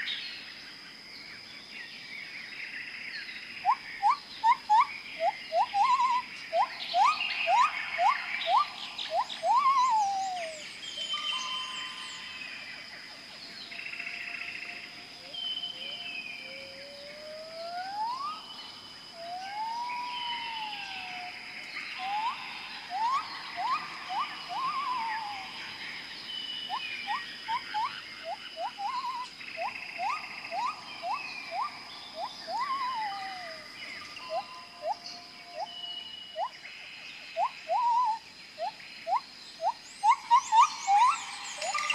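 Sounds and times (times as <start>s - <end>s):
gliding whistled bird calls: 2.8s - 41.9s.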